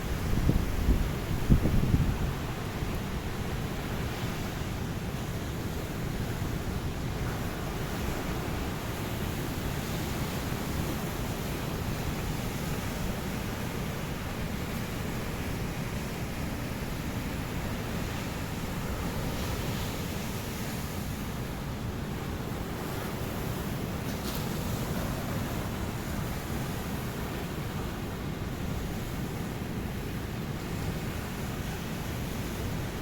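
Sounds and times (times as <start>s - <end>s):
waves breaking on beach: 0.0s - 33.0s.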